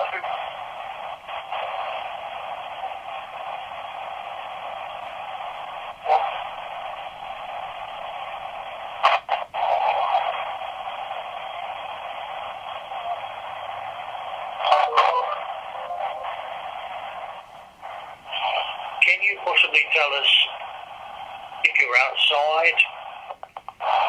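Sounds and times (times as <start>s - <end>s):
radio static hiss: 0.0s - 24.0s
static bursts: 0.0s - 24.0s.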